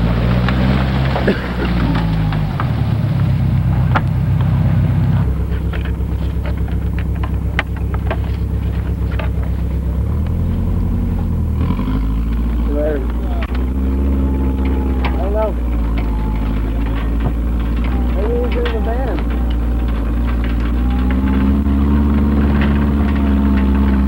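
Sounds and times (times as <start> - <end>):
clicks and rattles: 0.0 - 24.0
engine humming: 0.0 - 24.0.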